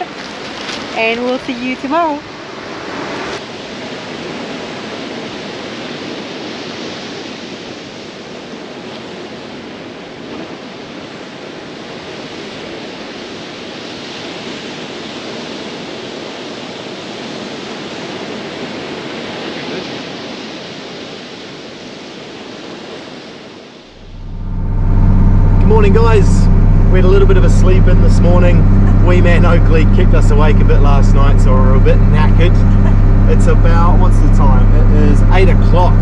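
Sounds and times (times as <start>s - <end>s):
surf rushing on beach: 0.0s - 36.0s
wind: 0.0s - 36.0s.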